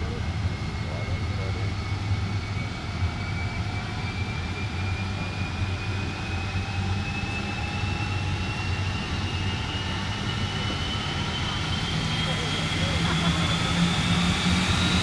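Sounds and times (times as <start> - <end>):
jet turbine running: 0.0 - 15.0.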